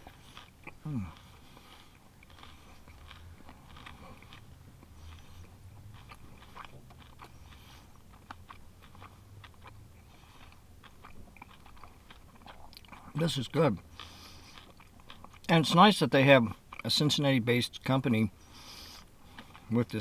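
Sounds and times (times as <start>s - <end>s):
close chewing with crunches: 0.0s - 20.0s
low steady hum: 0.0s - 20.0s.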